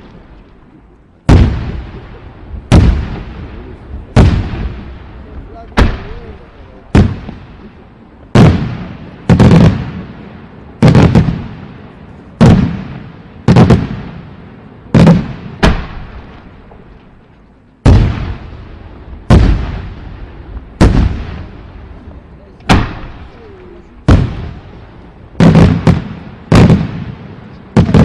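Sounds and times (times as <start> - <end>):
fireworks bangs with echo: 1.2 - 17.2, 17.8 - 28.0.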